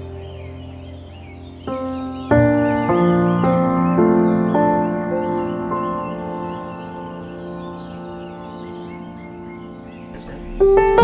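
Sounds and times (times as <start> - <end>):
birds chirping: 0.0 - 11.0
soft ambient music: 0.0 - 11.0.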